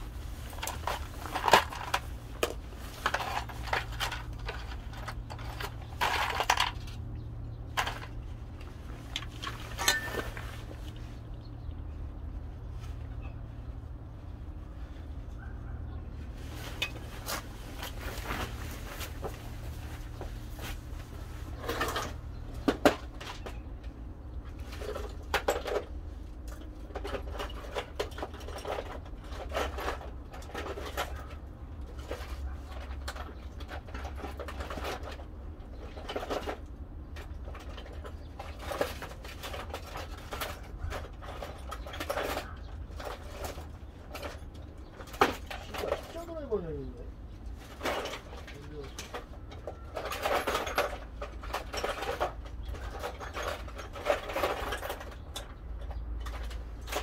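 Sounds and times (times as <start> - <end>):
low steady hum: 0.0 - 57.0
clicks and knocks of handling: 0.4 - 12.2, 15.4 - 46.4, 47.2 - 57.0.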